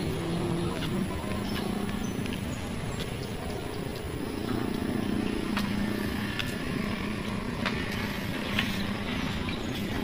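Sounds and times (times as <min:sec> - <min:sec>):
footsteps on a dirt path: 0:00.0 - 0:10.0
steady low hum: 0:00.0 - 0:10.0.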